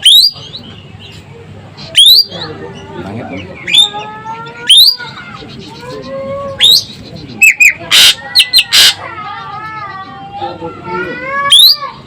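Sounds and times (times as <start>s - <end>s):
bird harsh rasping calls: 0.0s - 12.0s.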